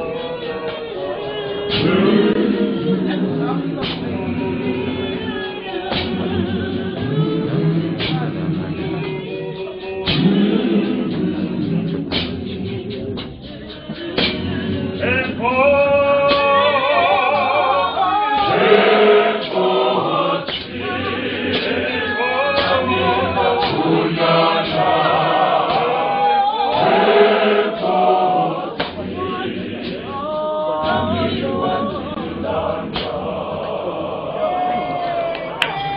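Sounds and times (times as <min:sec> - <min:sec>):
choir singing a hymn: 0:00.0 - 0:35.4
sharp beats: 0:01.7 - 0:35.6.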